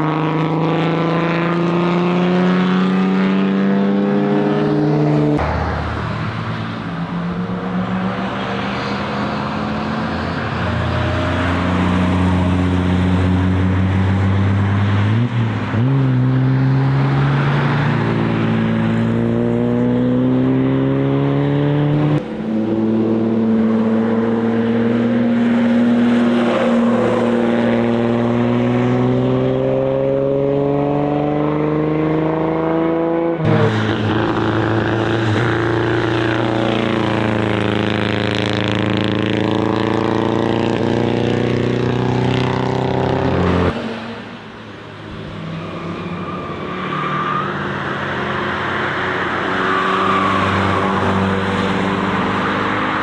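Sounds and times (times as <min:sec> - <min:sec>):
race car engines accelerating: 0:00.0 - 0:53.0.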